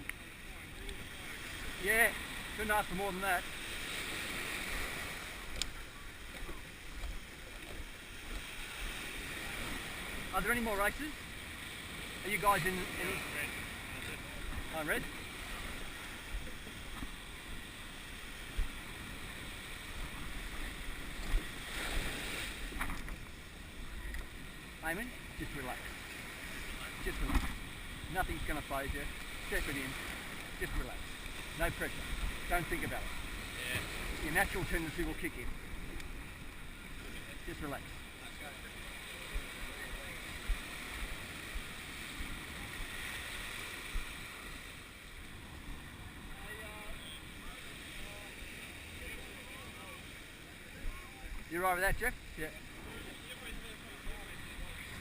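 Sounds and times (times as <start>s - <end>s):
sea water washing: 0.0s - 55.0s
wind: 0.0s - 55.0s.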